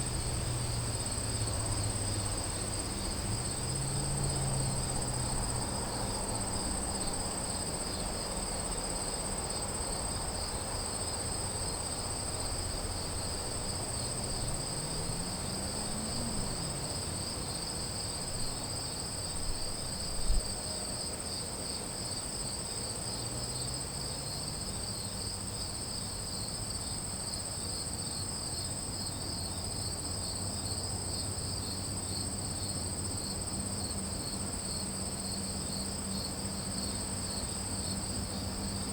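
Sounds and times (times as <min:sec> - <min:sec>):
high insect trill: 0:00.0 - 0:38.9
lower pulsing insect trill: 0:00.0 - 0:38.9.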